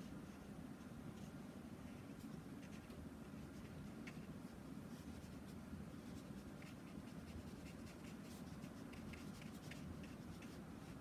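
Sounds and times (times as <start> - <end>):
low steady hum: 0.0 - 11.0
brush scratching on paper: 1.2 - 11.0.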